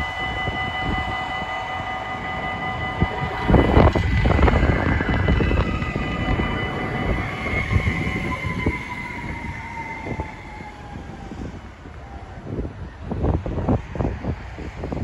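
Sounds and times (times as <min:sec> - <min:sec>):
falling whine of braking tram: 0:00.0 - 0:15.0
tram rumble: 0:00.0 - 0:15.0.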